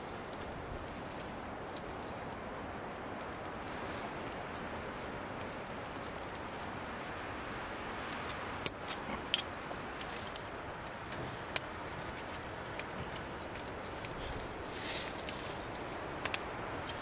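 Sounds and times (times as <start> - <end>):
steady hiss: 0.0 - 17.0
twig fire crackling: 0.0 - 17.0.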